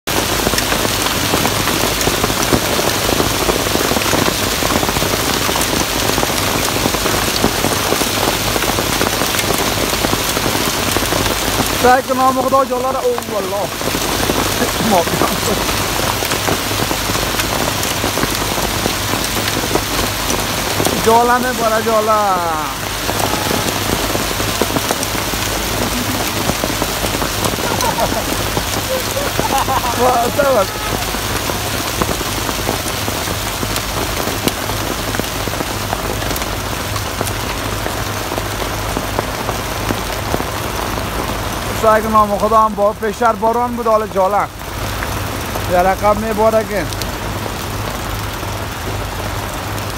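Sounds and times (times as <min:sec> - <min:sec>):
heavy rain on a wet street: 0:00.0 - 0:49.9
raindrops ticking sharply: 0:00.1 - 0:49.9.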